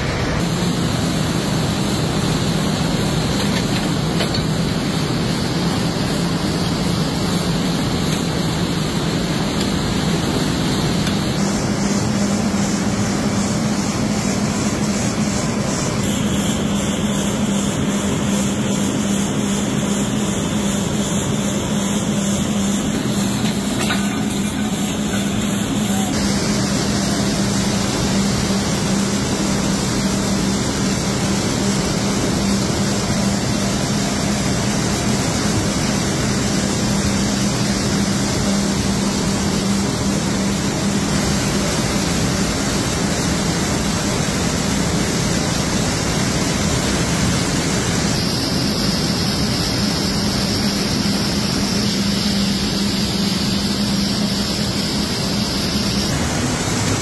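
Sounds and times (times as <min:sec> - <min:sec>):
constant low hum: 0:00.0 - 0:57.0
mill machinery running: 0:00.0 - 0:57.0.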